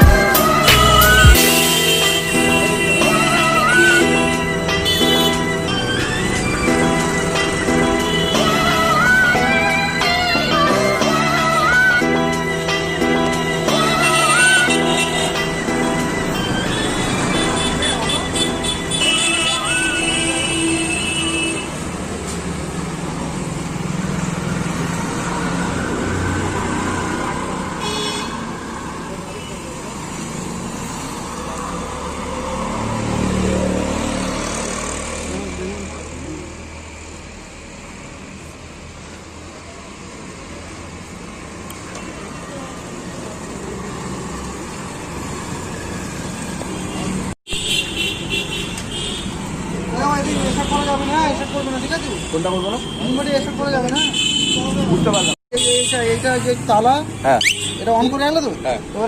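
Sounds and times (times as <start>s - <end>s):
road traffic hum: 0.0s - 59.0s.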